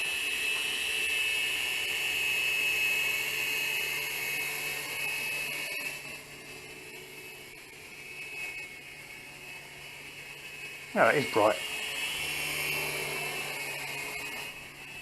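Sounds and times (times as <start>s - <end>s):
faint motor hum: 0.0s - 15.0s
mini helicopter rotors whining: 0.0s - 15.0s.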